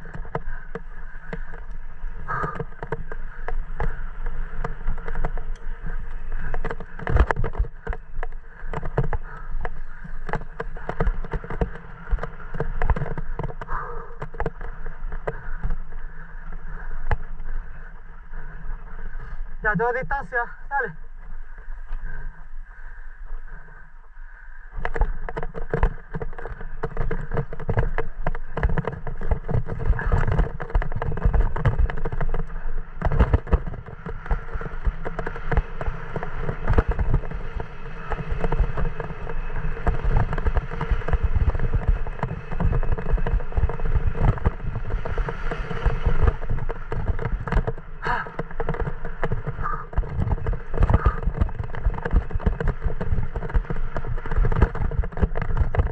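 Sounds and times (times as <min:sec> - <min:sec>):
wind noise on microphone: 0:00.0 - 0:20.3, 0:24.8 - 0:55.9
bike frame rattling over bumps: 0:00.0 - 0:55.9.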